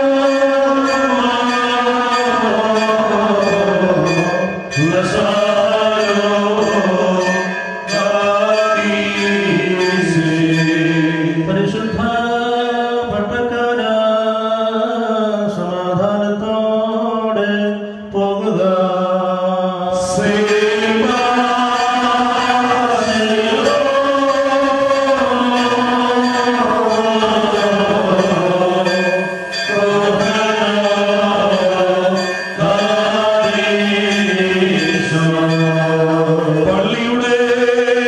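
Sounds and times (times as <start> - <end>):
men chanting a hymn: 0.0 - 38.0.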